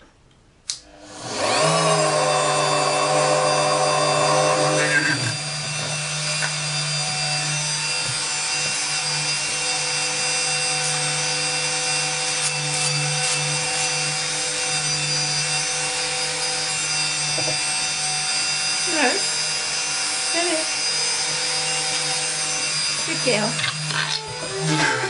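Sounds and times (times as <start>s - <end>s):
rotary tool grinding whine: 1.0s - 25.0s.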